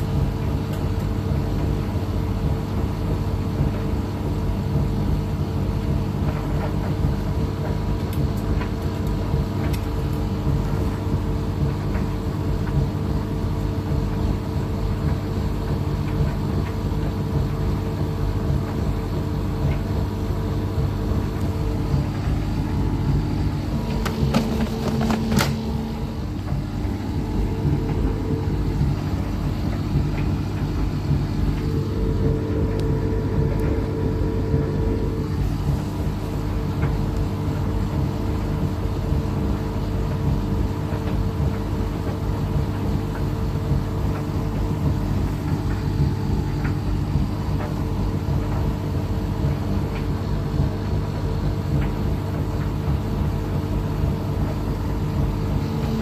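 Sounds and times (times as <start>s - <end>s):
washing machine drum spinning: 0.0s - 56.0s.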